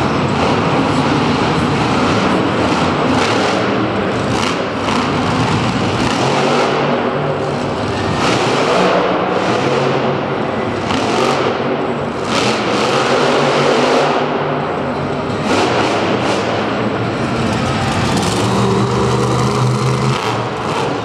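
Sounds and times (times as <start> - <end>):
truck engine revving hard: 0.0 - 14.5, 15.3 - 21.0.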